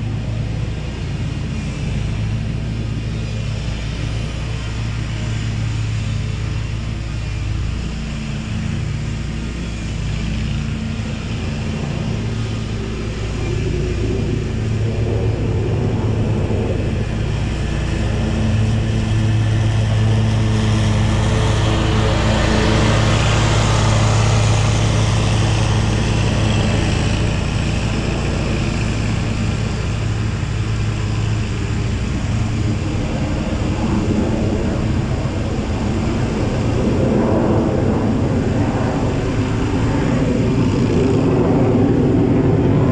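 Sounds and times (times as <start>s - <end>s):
engine drone: 0.0s - 42.9s
jet aircraft passing over: 0.0s - 42.9s.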